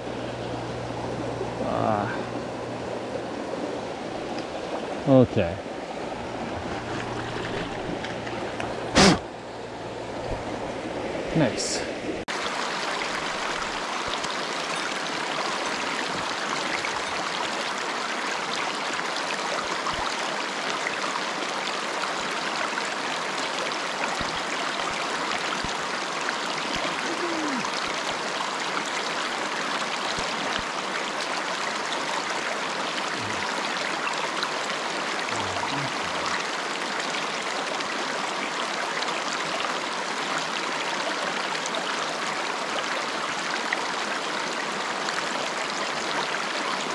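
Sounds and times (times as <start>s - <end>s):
stream running over stones: 0.0s - 46.9s.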